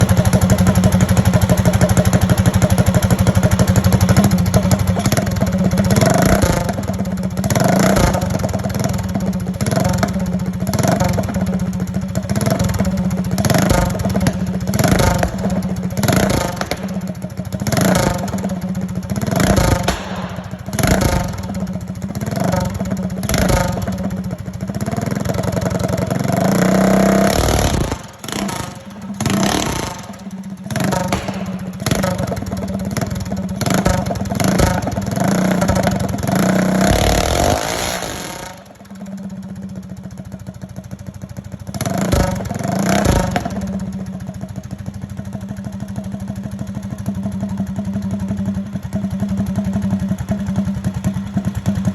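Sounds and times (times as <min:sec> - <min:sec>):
minibike engine revving: 0:00.0 - 0:51.9.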